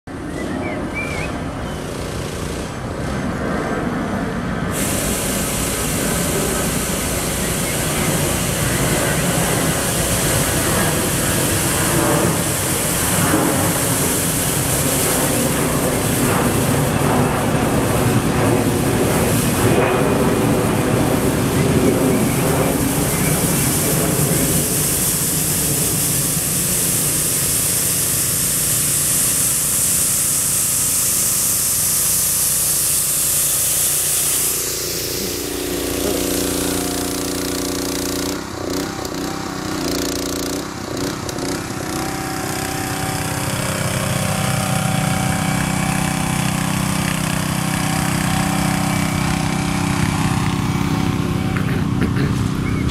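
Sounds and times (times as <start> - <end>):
engine humming: 0.1 - 52.9
sweeper brush hissing on gravel: 4.7 - 52.9.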